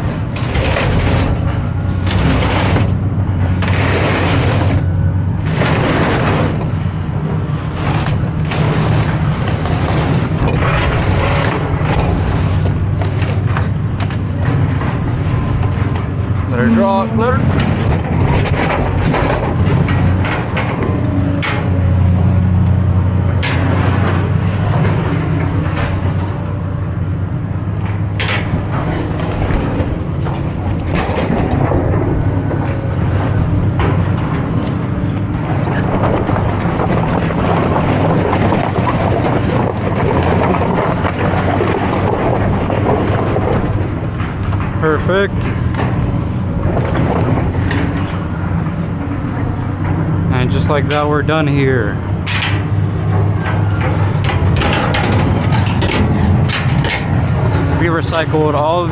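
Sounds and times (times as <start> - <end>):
vehicle engine running: 0.0 - 58.9
wind buffeting microphone: 0.0 - 58.9.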